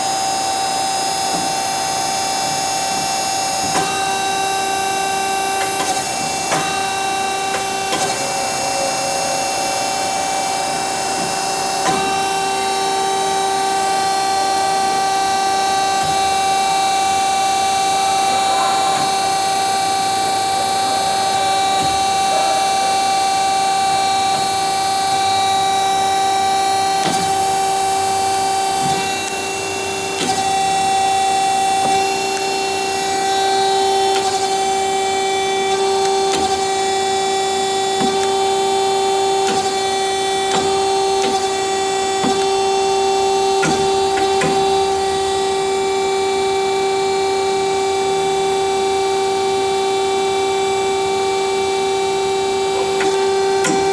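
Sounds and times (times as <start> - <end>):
bandsaw whining: 0.0 - 53.9.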